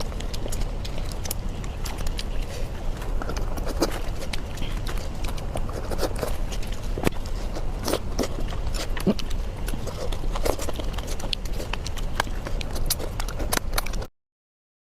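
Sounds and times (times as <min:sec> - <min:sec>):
crunchy eating and chewing: 0:00.0 - 0:14.1
low steady hum: 0:00.0 - 0:14.1.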